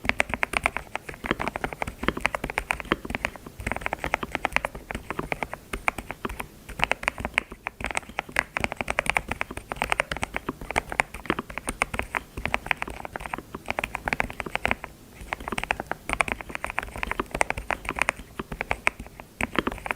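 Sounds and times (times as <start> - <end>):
fast typing on keyboard: 0.0 - 19.9.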